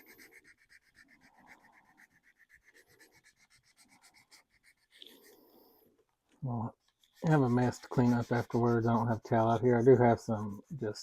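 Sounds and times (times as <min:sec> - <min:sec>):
sandpaper rubbing on plastic: 0:00.0 - 0:05.4, 0:06.7 - 0:11.0.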